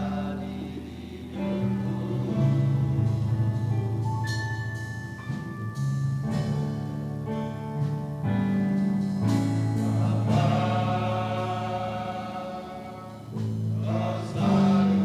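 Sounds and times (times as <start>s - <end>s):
keyboard chords over bass line: 0.0s - 15.0s.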